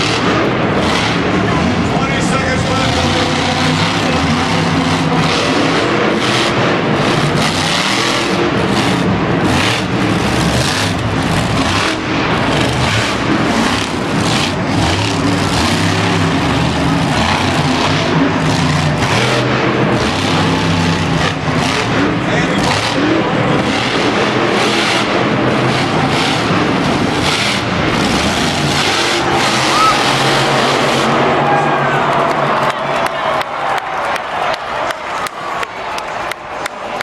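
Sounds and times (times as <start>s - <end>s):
monster truck engine revving: 0.0s - 37.0s.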